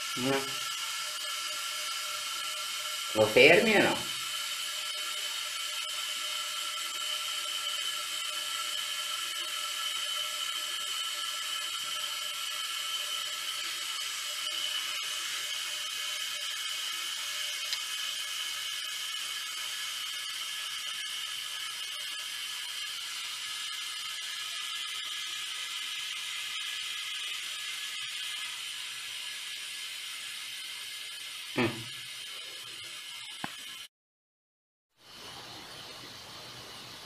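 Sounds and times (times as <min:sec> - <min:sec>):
small motor whirring: 0:00.0 - 0:33.9.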